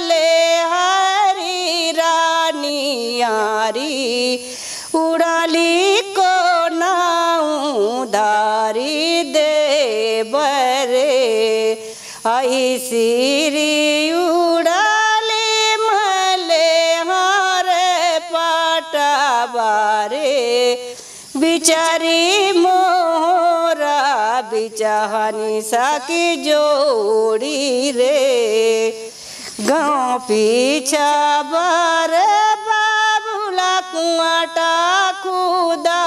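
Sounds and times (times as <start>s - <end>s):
woman singing unaccompanied: 0.0s - 36.0s.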